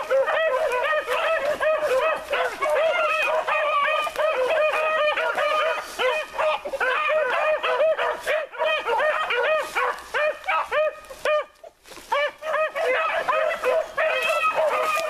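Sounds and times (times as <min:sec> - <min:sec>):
dogs baying and barking: 0:00.0 - 0:15.0.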